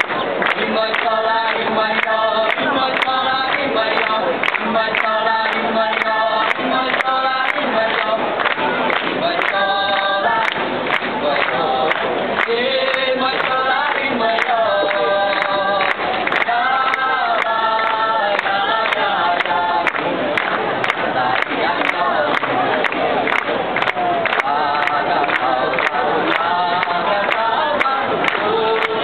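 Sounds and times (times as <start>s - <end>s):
group of people singing: 0.0s - 29.0s
sharp rhythmic beats: 0.0s - 29.0s.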